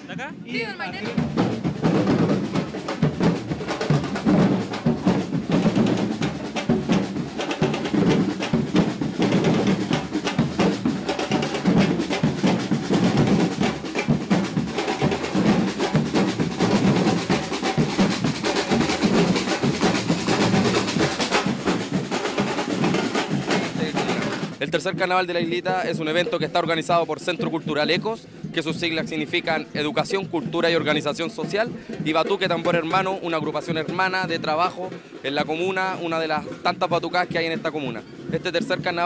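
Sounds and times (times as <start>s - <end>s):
drum corps playing: 0.2s - 39.0s.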